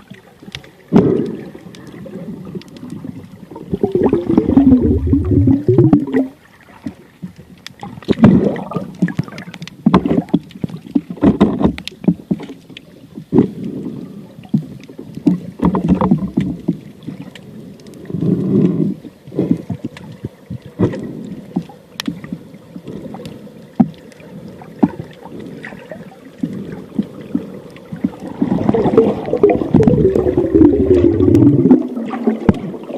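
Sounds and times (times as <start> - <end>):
water sloshing and splashing: 0.0 - 32.9.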